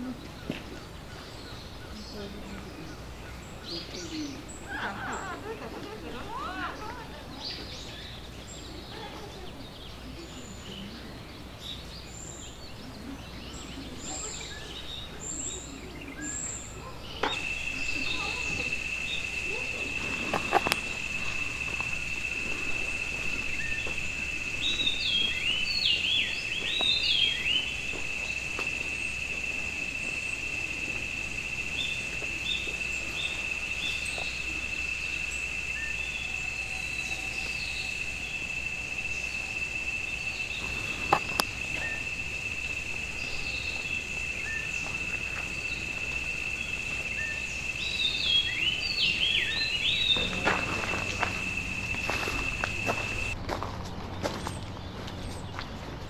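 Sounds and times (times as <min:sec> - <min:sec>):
high-pitched insect trill: 0:00.0 - 0:53.4
small birds chirping: 0:00.0 - 0:53.4.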